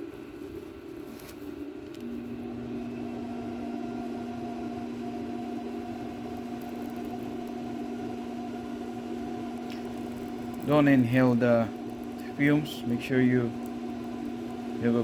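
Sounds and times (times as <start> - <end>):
induction heater humming: 0.0 - 15.0.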